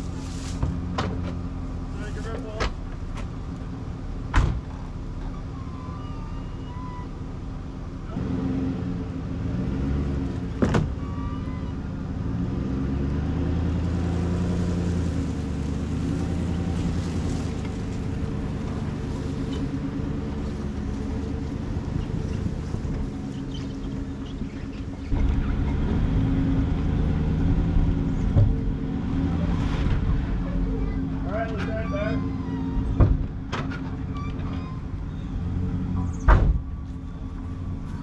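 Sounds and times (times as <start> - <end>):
truck engine idling and revving: 0.0 - 38.0.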